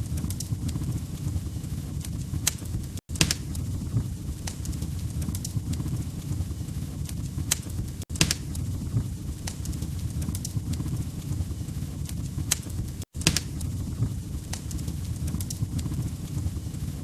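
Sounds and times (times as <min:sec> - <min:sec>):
fire popping and snapping: 0:00.0 - 0:17.0
fire rumbling: 0:00.0 - 0:17.0.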